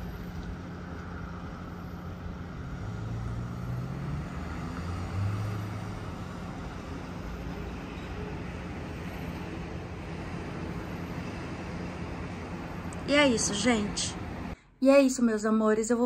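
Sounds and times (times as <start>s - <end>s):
engine drone: 0.0s - 14.6s
distant road traffic hum: 0.0s - 14.7s.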